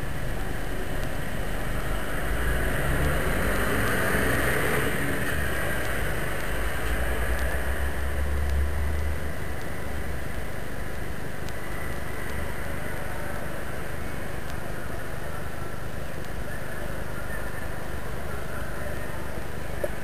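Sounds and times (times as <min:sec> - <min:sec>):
distant city traffic rumble: 0:00.0 - 0:20.0.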